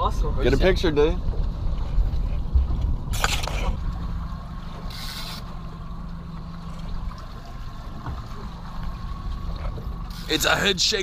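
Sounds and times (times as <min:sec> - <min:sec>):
outboard motor running: 0:00.0 - 0:11.0
water noise: 0:00.0 - 0:11.0.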